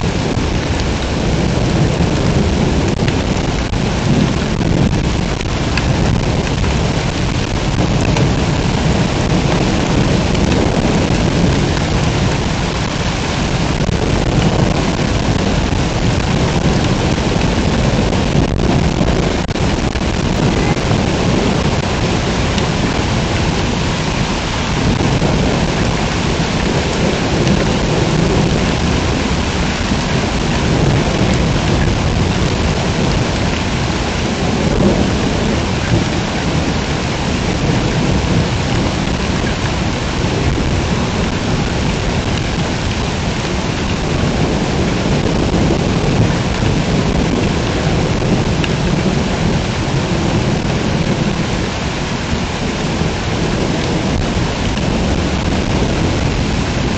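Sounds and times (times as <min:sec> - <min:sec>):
heavy rain pouring: 0:00.0 - 0:56.9
low rumbling thunder: 0:00.0 - 0:56.9.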